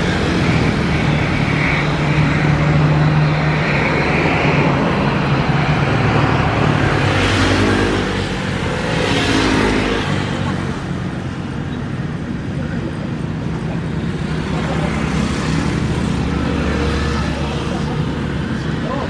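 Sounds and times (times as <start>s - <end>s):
jet engines at takeoff: 0.0s - 19.0s.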